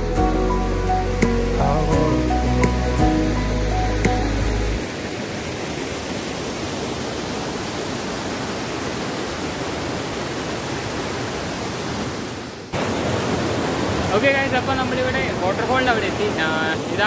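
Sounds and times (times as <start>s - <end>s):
water rushing over waterfall: 2.7s - 17.0s.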